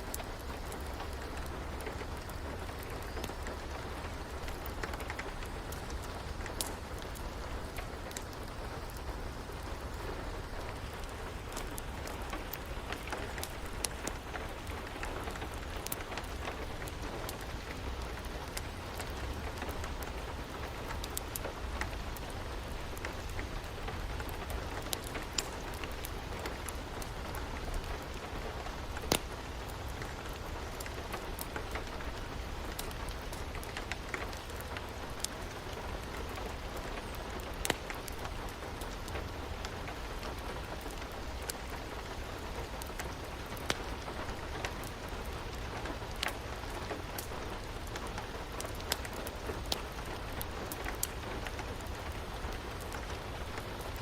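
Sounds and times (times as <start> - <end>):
steady rain: 0.0 - 54.0
wood fire crackling and popping: 0.0 - 54.0.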